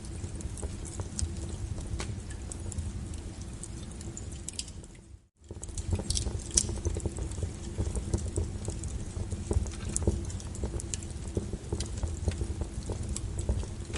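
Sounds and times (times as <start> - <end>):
low steady rumble: 0.0 - 13.9
wood fire crackling and popping: 0.0 - 13.9.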